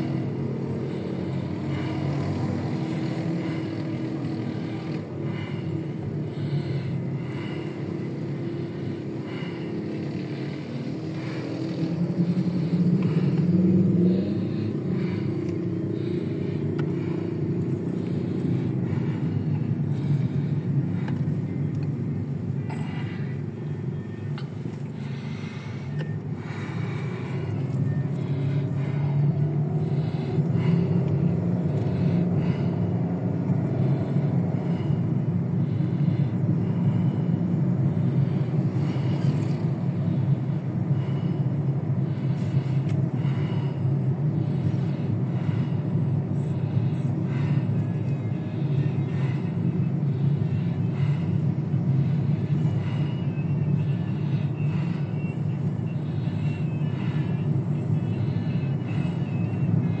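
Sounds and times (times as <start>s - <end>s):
car engine and road rumble: 0.0s - 60.0s.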